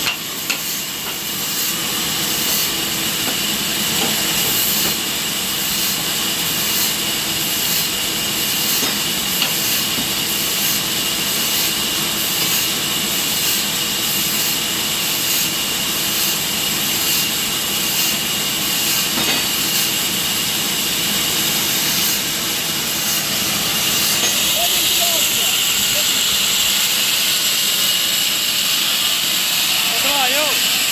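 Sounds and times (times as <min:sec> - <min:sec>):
sawmill machinery running: 0:00.0 - 0:30.9.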